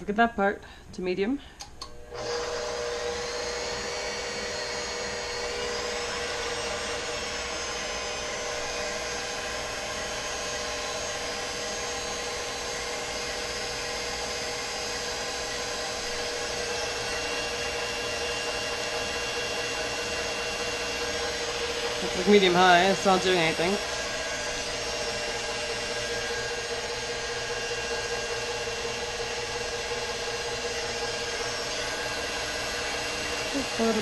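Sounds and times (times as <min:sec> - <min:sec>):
electric mixer whining: 0:01.8 - 0:34.0.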